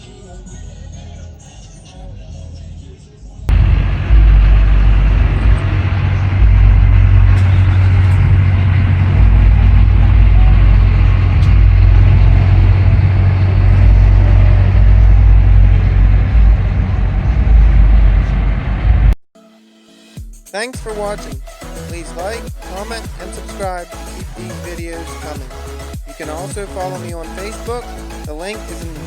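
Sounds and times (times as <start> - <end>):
diesel truck engine rumbling: 3.5 - 19.2, 20.8 - 29.0.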